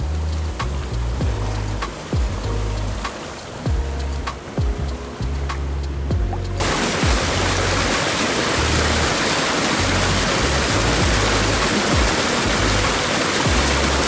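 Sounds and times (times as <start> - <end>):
waterfall roaring: 0.0 - 5.6, 6.6 - 14.0
background music with bass line: 0.0 - 7.9, 8.6 - 9.2, 9.8 - 14.0.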